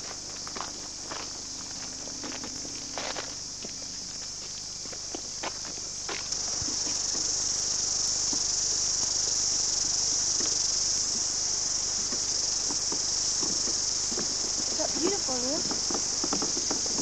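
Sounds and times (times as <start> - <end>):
cicadas shrilling: 0.0 - 17.0.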